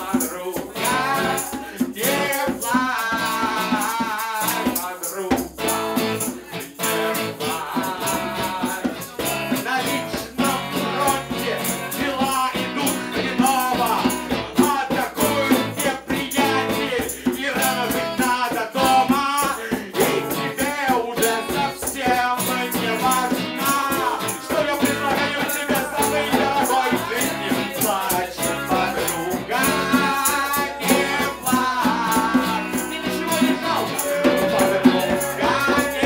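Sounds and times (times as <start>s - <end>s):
crisp rattling beat: 0.0s - 36.0s
man singing into microphone: 0.0s - 36.0s
strummed acoustic guitar: 0.0s - 36.0s.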